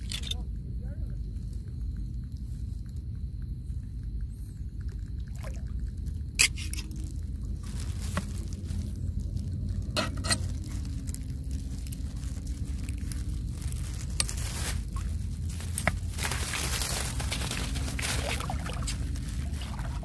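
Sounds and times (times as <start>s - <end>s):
steady low rumble: 0.0s - 20.0s
water sloshing and trickling: 0.0s - 20.0s.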